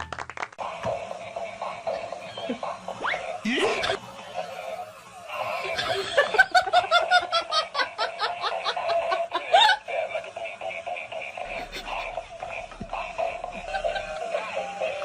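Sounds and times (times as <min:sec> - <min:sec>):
person laughing: 0:01.2 - 0:15.0.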